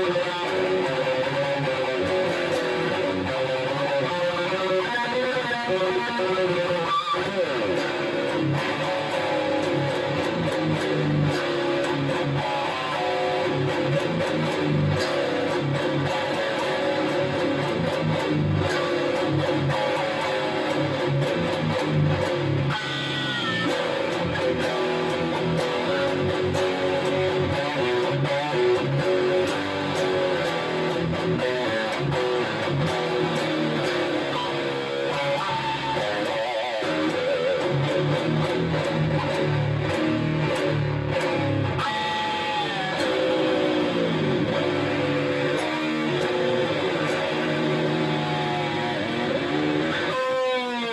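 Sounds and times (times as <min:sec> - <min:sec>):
electric guitar playing: 0:00.0 - 0:50.9.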